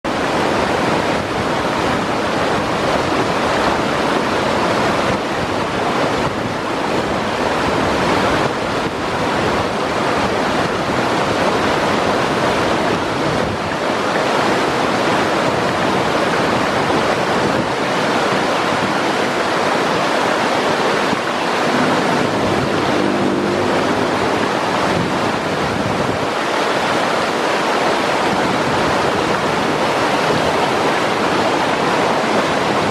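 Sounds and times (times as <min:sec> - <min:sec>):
river rapids rushing over boulders: 0:00.1 - 0:32.9.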